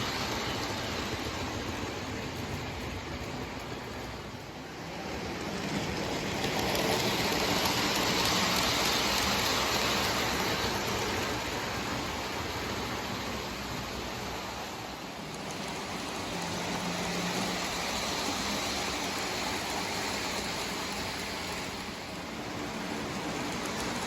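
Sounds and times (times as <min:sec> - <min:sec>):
toy train rolling and rattling: 0:00.0 - 0:24.0.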